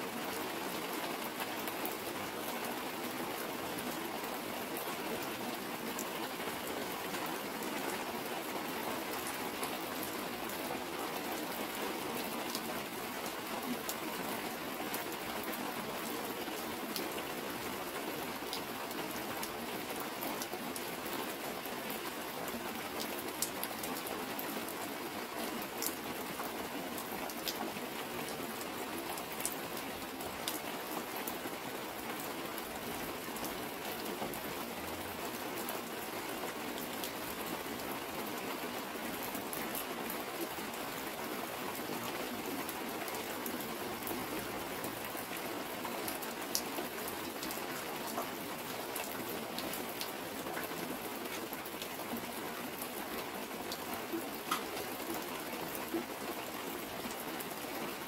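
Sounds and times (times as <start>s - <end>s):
heavy rain on plastic sheet: 0.0s - 58.0s.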